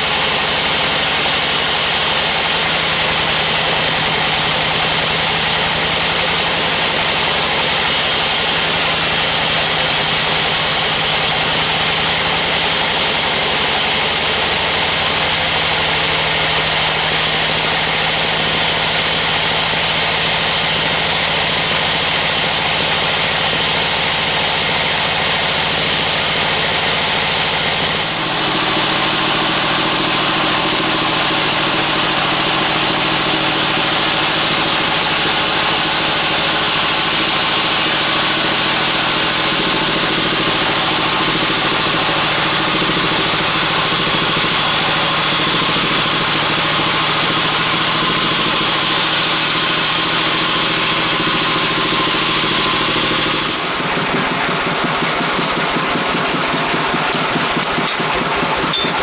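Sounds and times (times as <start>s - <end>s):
band sawmill drone: 0.0s - 59.0s.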